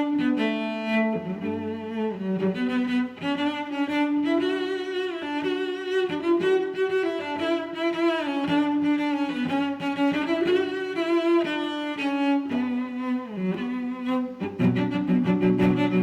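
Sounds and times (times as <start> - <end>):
bowed strings melody: 0.0 - 16.0.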